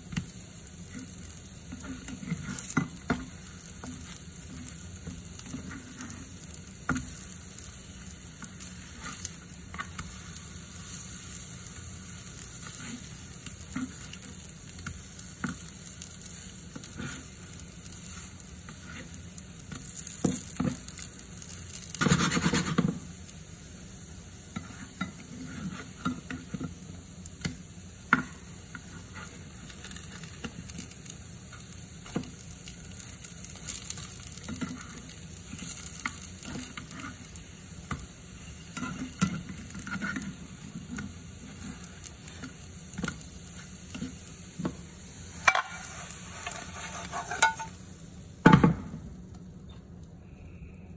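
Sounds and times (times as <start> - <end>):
pancakes sizzling in a pan: 0.0 - 48.6.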